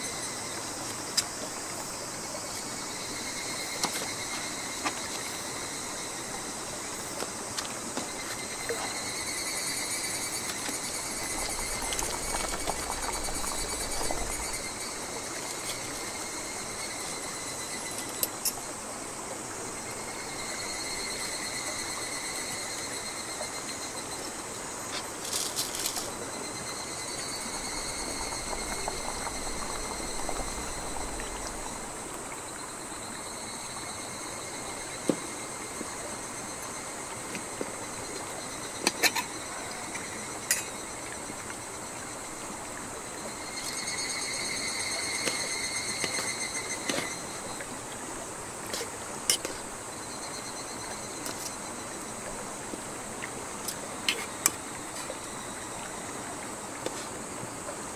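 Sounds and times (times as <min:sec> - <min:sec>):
insects chirping: 0:00.0 - 0:57.9.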